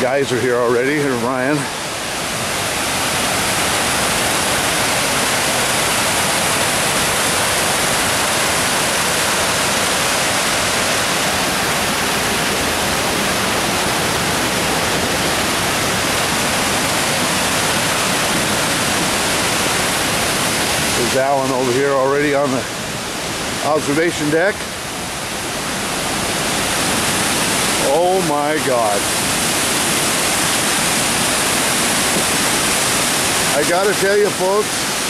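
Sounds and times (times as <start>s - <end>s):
waterfall crashing: 0.0s - 35.0s.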